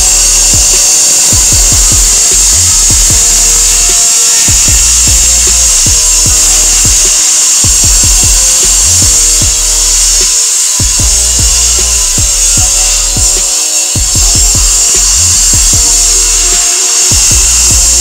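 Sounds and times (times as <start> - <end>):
music with deep bass drum beat: 0.0 - 18.0
power tool whining into wall: 0.0 - 18.0.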